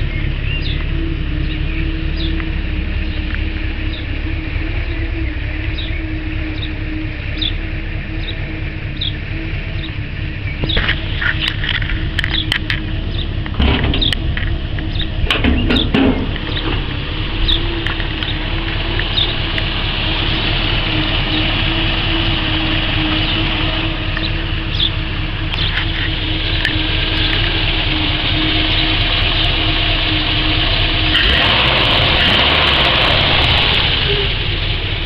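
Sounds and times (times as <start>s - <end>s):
car engine idling: 0.0s - 35.0s
rushes of noise: 1.2s - 35.0s.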